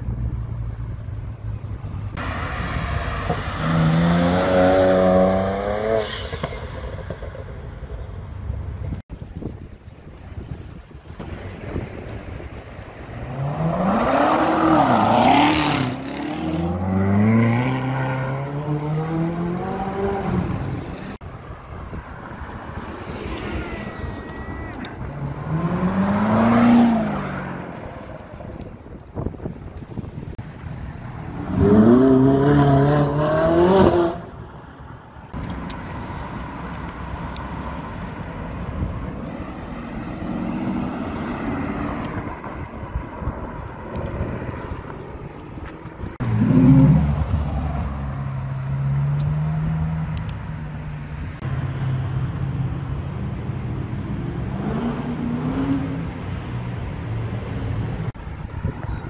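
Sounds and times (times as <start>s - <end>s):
city traffic: 0.0s - 59.0s.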